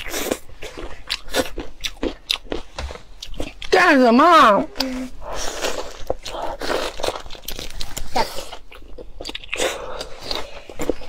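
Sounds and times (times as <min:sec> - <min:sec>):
close biting and chewing: 0:00.0 - 0:03.7, 0:05.2 - 0:11.0.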